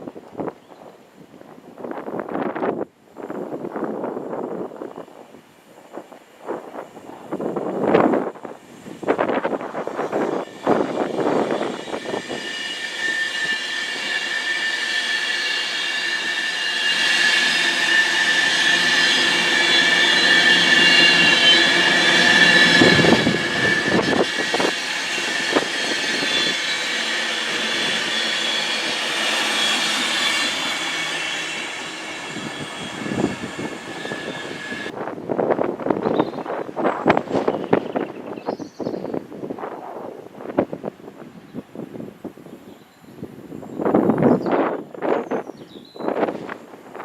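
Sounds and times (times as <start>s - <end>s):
train passing with high whine: 0.0s - 47.0s.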